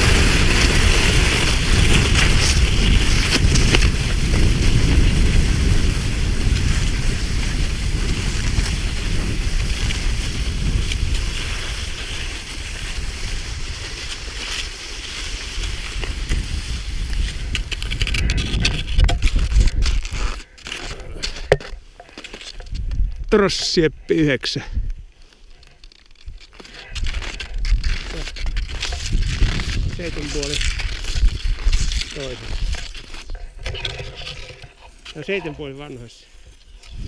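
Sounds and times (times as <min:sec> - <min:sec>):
wind buffeting microphone: 0:00.0 - 0:14.4, 0:15.6 - 0:20.2, 0:22.6 - 0:24.0, 0:27.0 - 0:35.8, 0:36.4 - 0:37.0
scraping hiss over snow: 0:00.0 - 0:21.4, 0:25.2 - 0:37.0.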